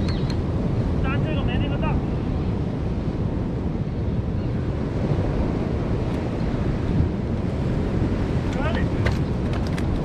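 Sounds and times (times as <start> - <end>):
sea and boat rumble: 0.0 - 10.0
wind buffeting microphone: 0.0 - 10.0.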